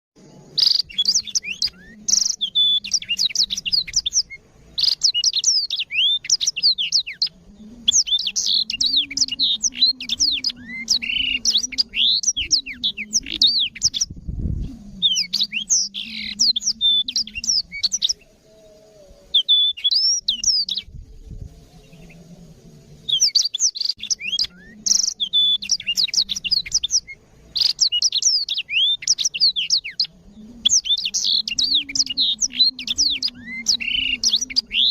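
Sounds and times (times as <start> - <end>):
faint low hum: 0.2 - 19.4, 20.2 - 34.9
canary singing chirps and trills: 0.2 - 22.2, 22.8 - 34.9.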